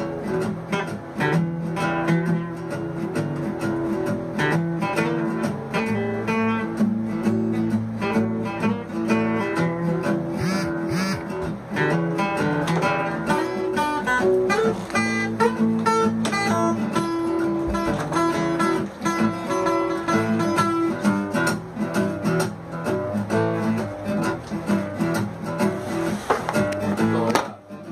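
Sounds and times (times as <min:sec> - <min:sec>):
acoustic guitar music: 0:00.0 - 0:27.9.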